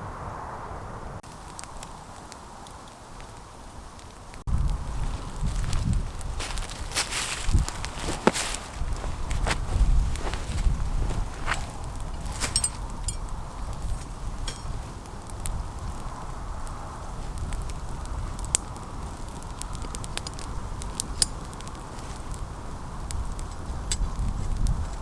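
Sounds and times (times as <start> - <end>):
campfire crackling and popping: 1.2 - 25.0.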